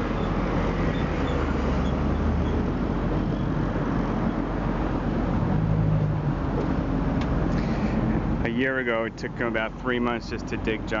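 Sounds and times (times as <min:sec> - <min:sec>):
low engine hum: 0:00.0 - 0:11.0
road traffic roar: 0:00.0 - 0:11.0.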